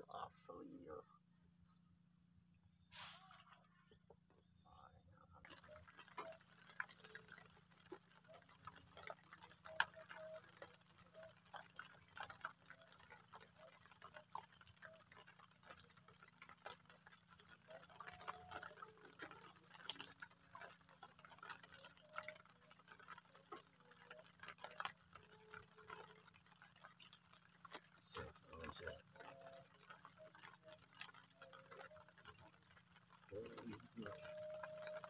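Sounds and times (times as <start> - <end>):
raindrops ticking: 4.2 - 35.0.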